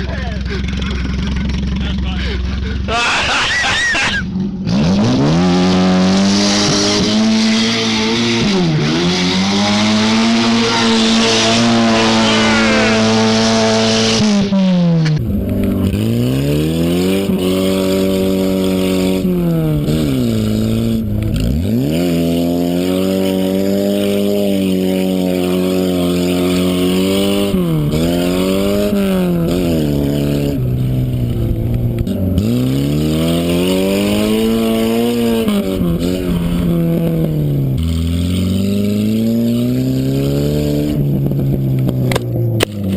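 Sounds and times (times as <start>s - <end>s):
car engine revving through gears: 3.6s - 42.9s.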